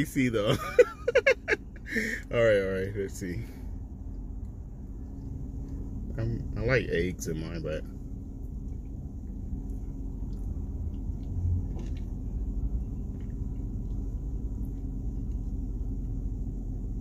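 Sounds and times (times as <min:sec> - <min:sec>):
low rumble inside car cabin: 0:00.0 - 0:17.0.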